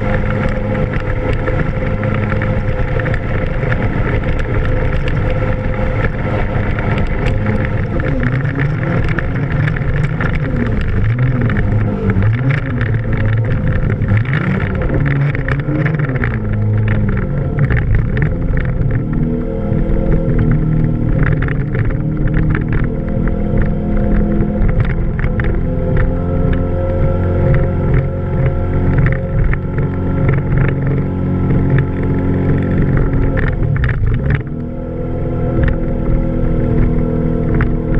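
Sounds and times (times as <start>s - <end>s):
rotary boat engine running: 0.0s - 37.9s.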